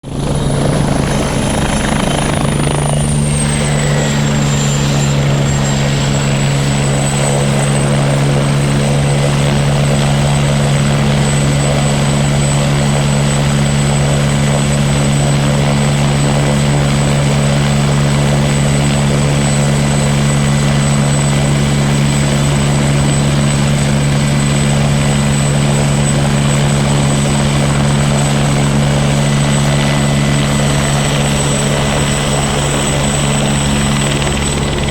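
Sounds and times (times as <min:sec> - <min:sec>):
helicopter rotor and engine drone: 0:00.0 - 0:34.9
high turbine whine: 0:00.0 - 0:34.9.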